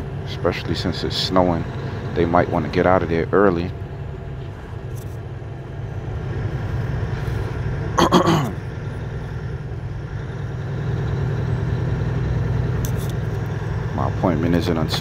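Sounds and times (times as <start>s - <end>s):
diesel truck engine rumble: 0.0s - 15.0s
road noise: 0.0s - 15.0s.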